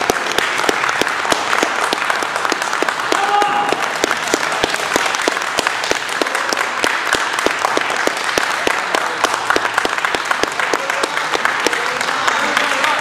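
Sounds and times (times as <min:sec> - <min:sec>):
group applauding: 0:00.0 - 0:13.0
sharp steady claps: 0:00.0 - 0:13.0.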